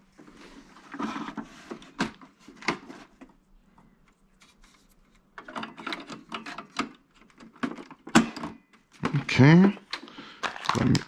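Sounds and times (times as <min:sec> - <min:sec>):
plastic handling noises: 0:00.1 - 0:11.0.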